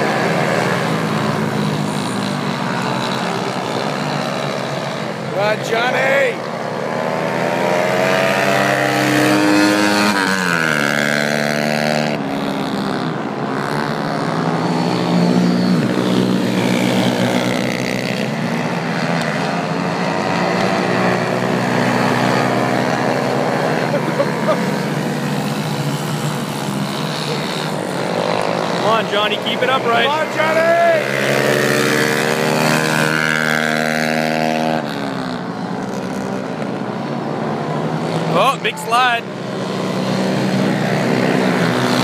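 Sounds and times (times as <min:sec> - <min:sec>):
pit bike engines revving: 0:00.0 - 0:42.0.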